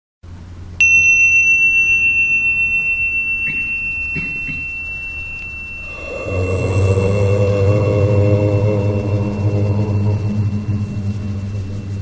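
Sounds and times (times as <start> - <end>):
bell ringing: 0.8 - 12.0
low sustained music: 0.8 - 12.0.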